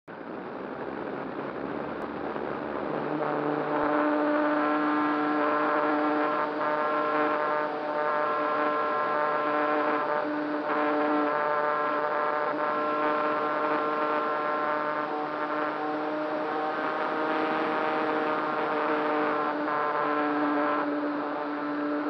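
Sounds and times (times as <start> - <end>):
electric motor and propeller whine: 0.1 - 22.0.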